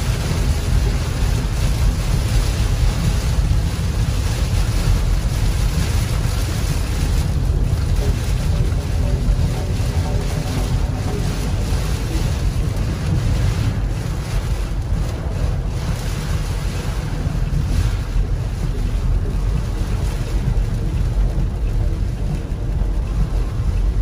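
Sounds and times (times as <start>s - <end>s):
rain and wind on a car: 0.0s - 24.0s.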